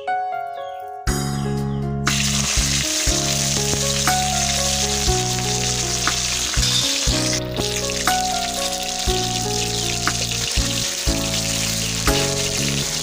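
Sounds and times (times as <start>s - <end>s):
music with heavy bass: 1.1s - 13.0s
food sizzling in hot oil: 2.1s - 13.0s.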